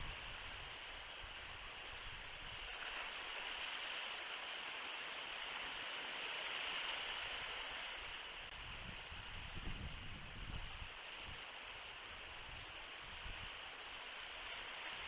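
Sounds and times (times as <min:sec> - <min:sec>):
outdoor ambience hiss: 0:00.0 - 0:15.0.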